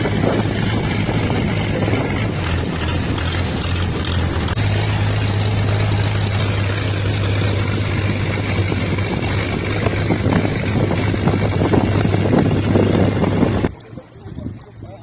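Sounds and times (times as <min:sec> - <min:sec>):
broad rushing noise: 0:00.0 - 0:15.0
engine humming: 0:00.0 - 0:15.0.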